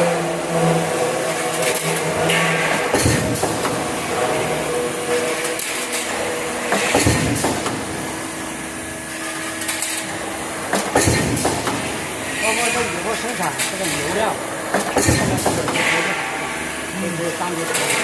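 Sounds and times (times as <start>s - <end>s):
machinery humming: 0.0s - 18.0s
press machinery knocks and clanks: 0.0s - 18.0s.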